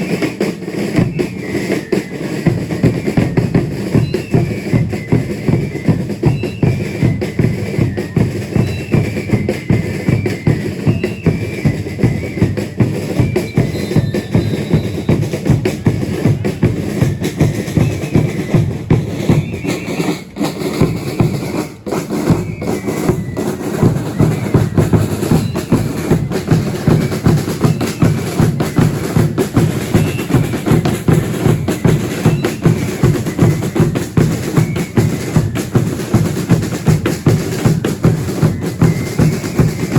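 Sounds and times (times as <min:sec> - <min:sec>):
drums beating fast rhythm: 0:00.0 - 0:39.9.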